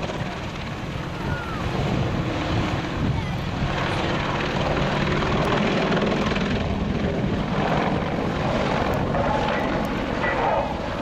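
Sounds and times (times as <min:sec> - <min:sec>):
helicopter flying past: 0:00.0 - 0:11.0.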